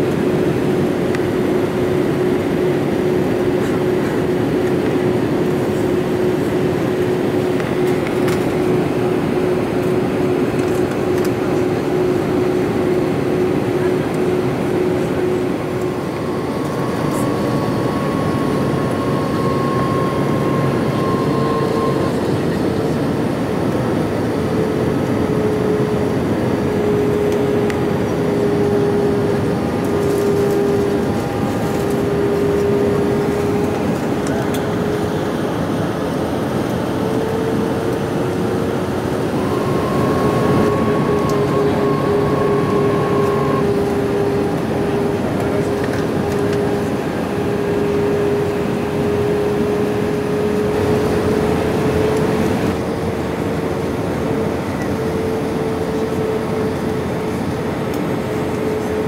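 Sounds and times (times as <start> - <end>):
airplane cabin roar: 0.0 - 59.0
droning engine hum: 0.0 - 59.0.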